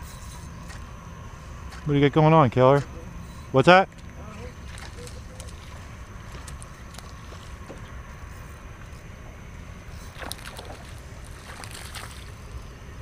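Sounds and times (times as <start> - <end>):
water moving around boat: 0.0 - 13.0.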